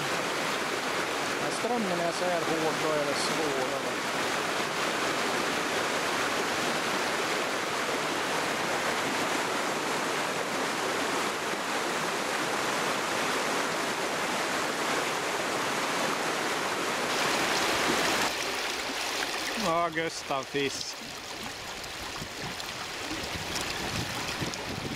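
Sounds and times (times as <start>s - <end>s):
stream rushing over rocks: 0.0s - 24.9s.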